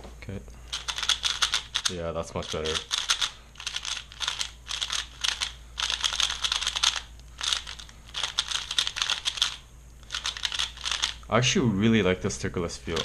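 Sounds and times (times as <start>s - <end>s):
puzzle cube clacking: 0.7s - 11.2s.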